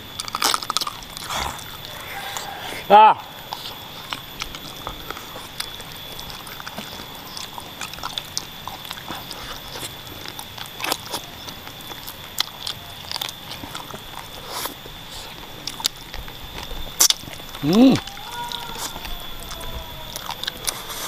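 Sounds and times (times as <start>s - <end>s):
person chewing with mouth clicks: 0.0s - 21.0s.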